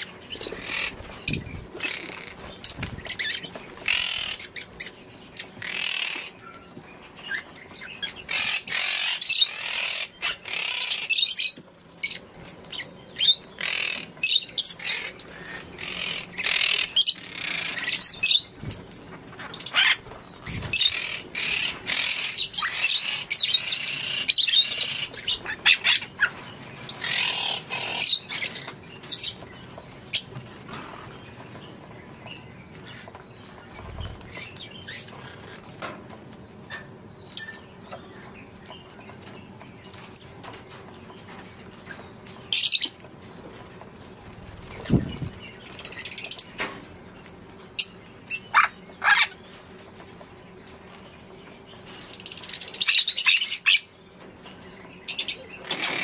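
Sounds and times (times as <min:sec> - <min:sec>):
lovebirds chirping and chattering: 0:00.0 - 0:56.0.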